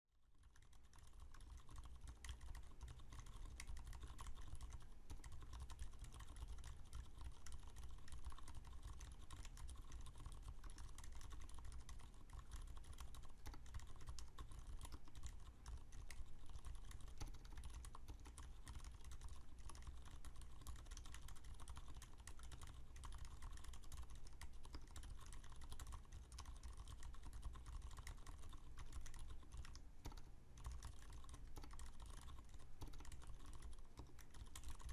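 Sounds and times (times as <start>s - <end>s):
fast typing on mechanical keyboard: 0.2s - 34.9s.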